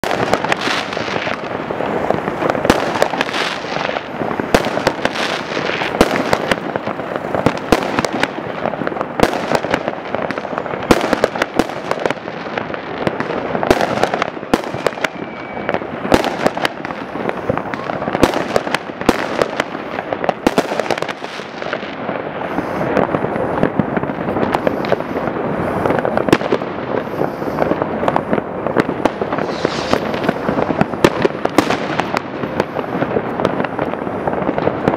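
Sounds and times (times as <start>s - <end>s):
fireworks crackling and banging: 0.0s - 34.9s.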